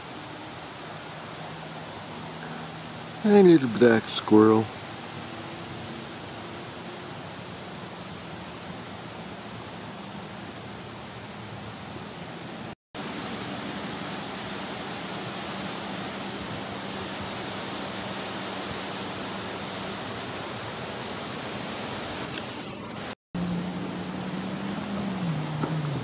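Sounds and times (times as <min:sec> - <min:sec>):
faint engine hum: 0:00.0 - 0:26.0
outdoor hiss: 0:00.0 - 0:26.0
personal watercraft engines running: 0:00.0 - 0:26.0.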